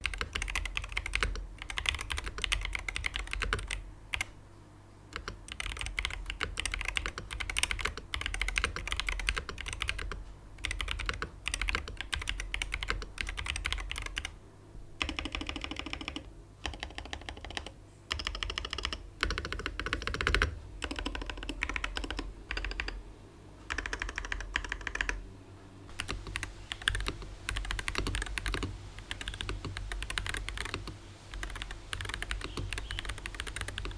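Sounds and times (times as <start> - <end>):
keyboard typing: 0.0 - 4.4, 5.1 - 14.4, 15.0 - 23.0, 23.7 - 25.2, 25.9 - 33.9.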